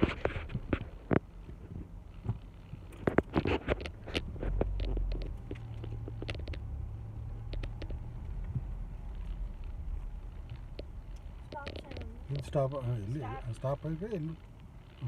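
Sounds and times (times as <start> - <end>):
vehicle motor humming: 0.0 - 15.0.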